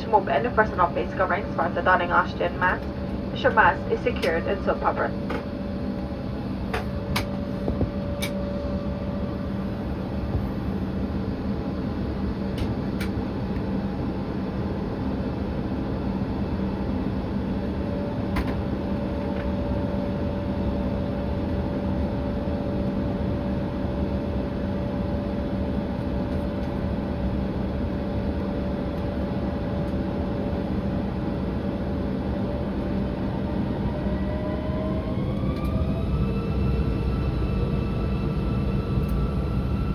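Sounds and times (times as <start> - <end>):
jet engine hum and whine: 0.0 - 39.9.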